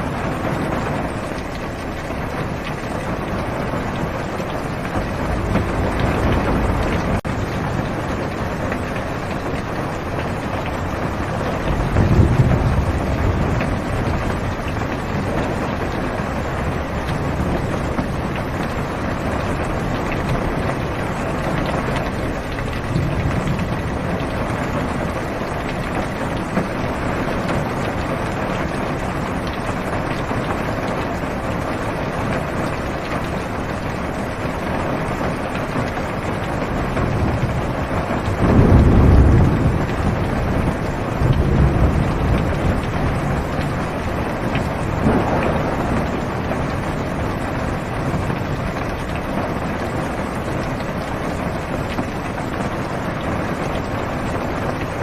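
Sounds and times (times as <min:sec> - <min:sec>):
heavy rain on car roof: 0:00.0 - 0:55.0
low rumble of thunder: 0:00.0 - 0:55.0.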